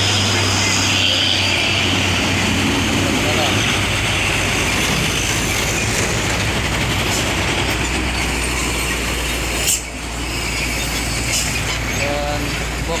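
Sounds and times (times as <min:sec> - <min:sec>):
heavy vehicle engine drone: 0:00.0 - 0:13.0.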